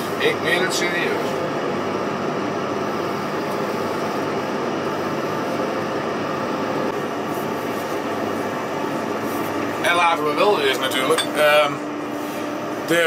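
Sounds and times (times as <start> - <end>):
farm machine engine drone: 0.0 - 13.0.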